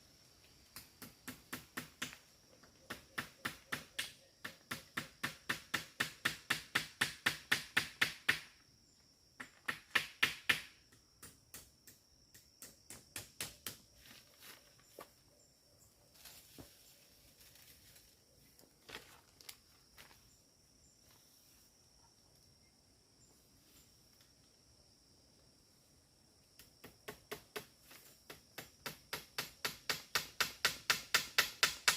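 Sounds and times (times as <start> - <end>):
high insect drone: 0.0 - 31.9.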